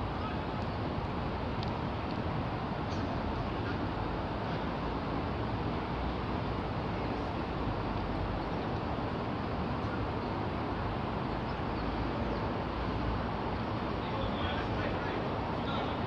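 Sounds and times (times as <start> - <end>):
road traffic rumble and hiss: 0.0 - 16.0.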